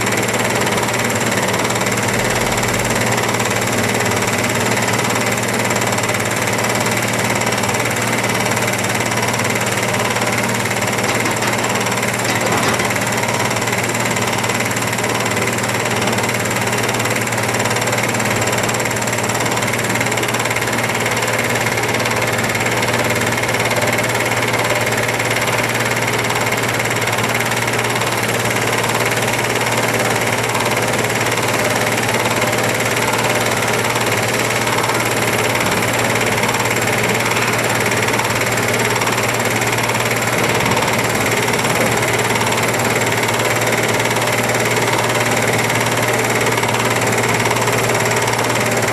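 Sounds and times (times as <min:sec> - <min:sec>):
excavator diesel engine drone: 0:00.0 - 0:48.9.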